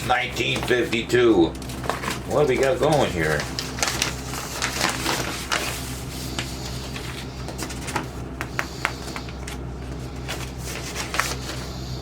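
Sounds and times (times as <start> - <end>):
paper and plastic crackling: 0.0 - 11.8
steady low hum: 0.0 - 12.0.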